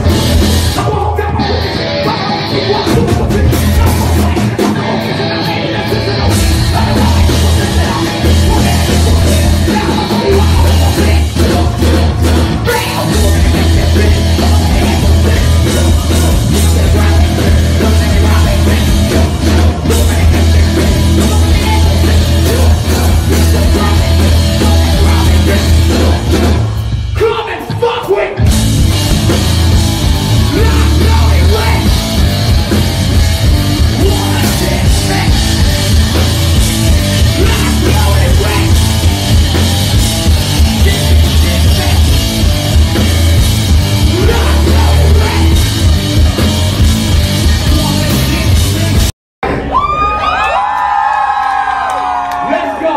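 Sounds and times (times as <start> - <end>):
live rock band playing: 0.0 - 49.1.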